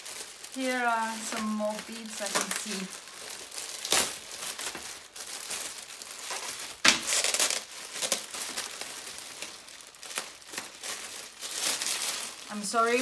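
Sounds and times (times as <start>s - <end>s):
bubble wrap crackling: 0.0s - 13.0s.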